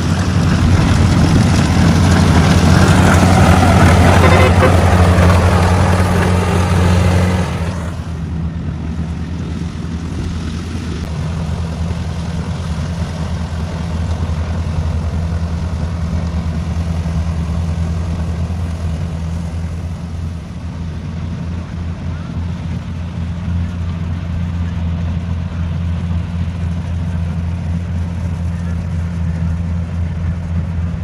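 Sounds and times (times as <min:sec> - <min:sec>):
combine harvester engine running: 0:00.0 - 0:31.0.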